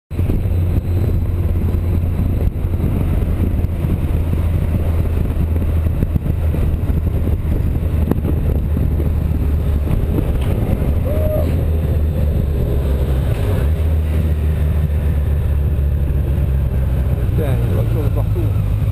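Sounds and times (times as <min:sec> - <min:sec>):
motorcycle engine humming: 0:00.1 - 0:18.9
road noise: 0:00.1 - 0:18.9.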